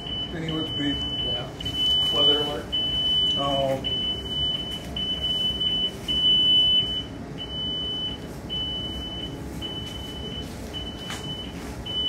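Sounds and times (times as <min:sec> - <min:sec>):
radio alarm beeping: 0:00.0 - 0:12.0.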